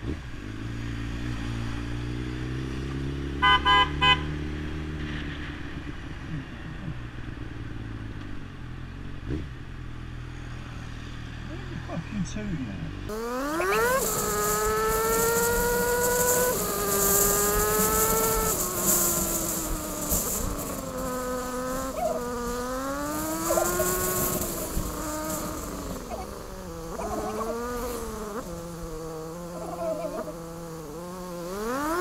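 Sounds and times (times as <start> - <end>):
small motorcycle engine accelerating: 0.0 - 32.0.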